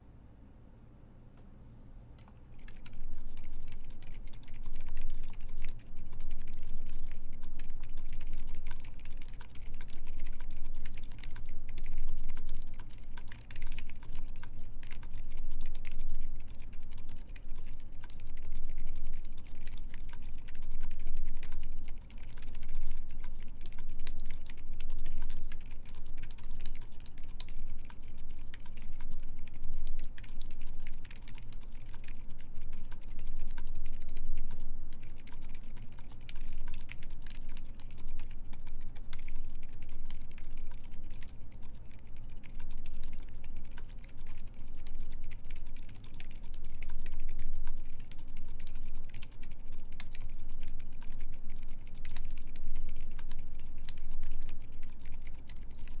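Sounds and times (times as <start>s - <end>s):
fast typing on mechanical keyboard: 2.6s - 56.0s.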